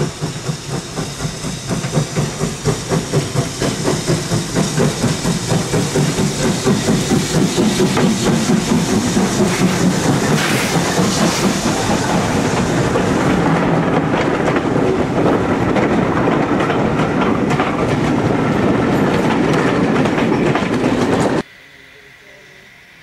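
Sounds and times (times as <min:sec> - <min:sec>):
train wheels clattering over rails: 0:00.0 - 0:21.4.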